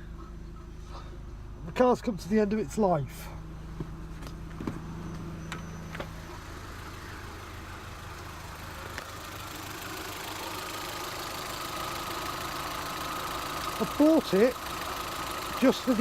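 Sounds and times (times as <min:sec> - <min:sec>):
car engine idling quietly: 0:00.0 - 0:16.0.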